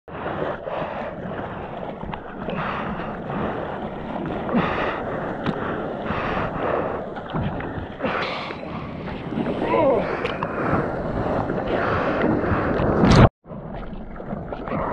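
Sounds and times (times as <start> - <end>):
wind buffeting microphone: 0.1 - 13.3
seawater rushing and splashing: 0.1 - 14.9.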